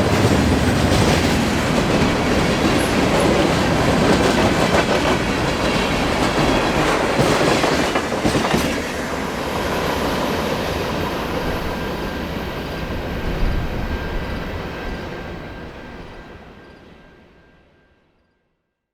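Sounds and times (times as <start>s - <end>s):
train wheels clattering on track: 0.0s - 16.3s.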